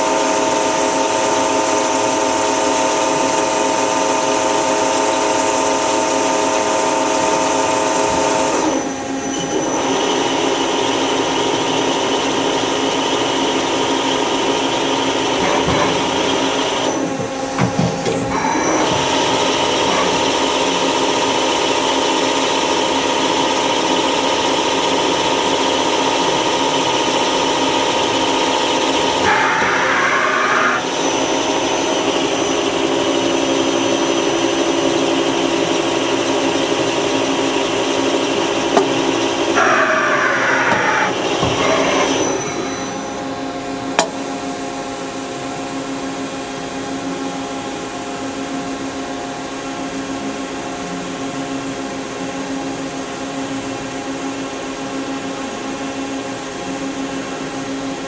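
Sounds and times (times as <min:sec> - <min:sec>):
machine whine: 0:00.0 - 0:48.2.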